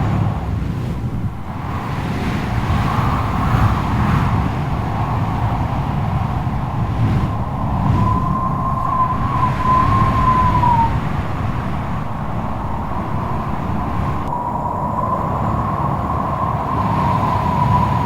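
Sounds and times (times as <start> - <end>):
strong wind howling: 0.0 - 18.0.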